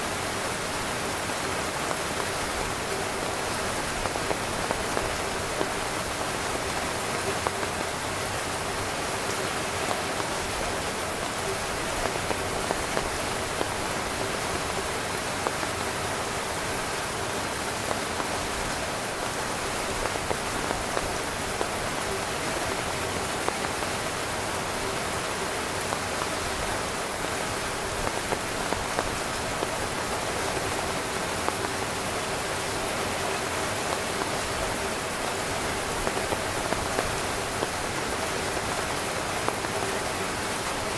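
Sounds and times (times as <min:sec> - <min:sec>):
torrential rain on a tent: 0:00.0 - 0:40.9.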